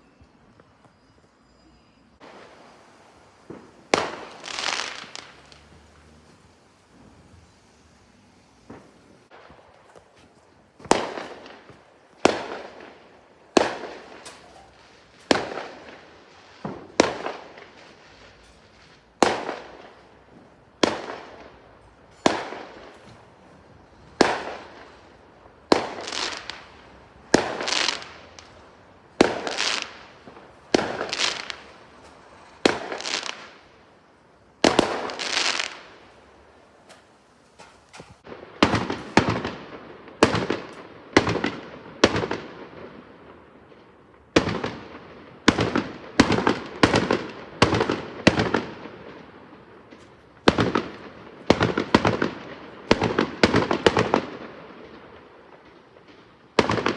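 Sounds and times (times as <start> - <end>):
fireworks bangs: 0.0 - 56.9
fireworks crackling fizz: 0.0 - 56.9.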